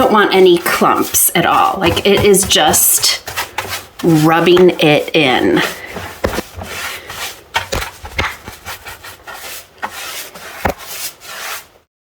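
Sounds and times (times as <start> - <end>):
paintbrush rubbing on wood: 0.0 - 11.9
brush knocking against wood: 0.3 - 11.0.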